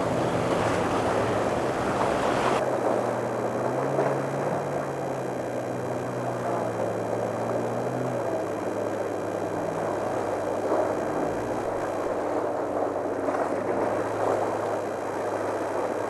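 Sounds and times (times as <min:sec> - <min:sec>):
outboard engines droning: 0:00.0 - 0:16.0
water rushing from boat hull: 0:00.0 - 0:16.0.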